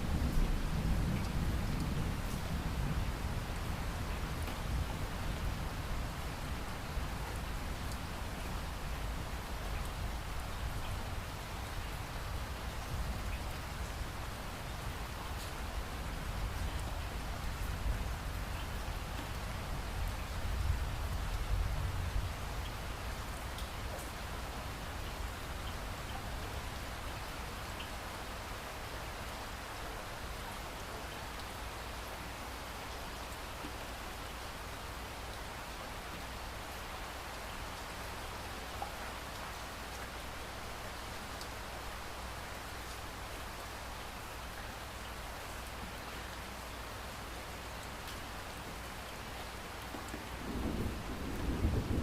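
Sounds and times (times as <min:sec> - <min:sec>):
light rain falling: 0:00.0 - 0:52.0.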